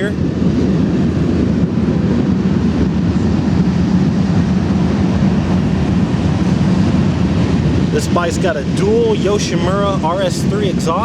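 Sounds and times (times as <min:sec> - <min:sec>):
low rumbling noise: 0:00.0 - 0:11.0.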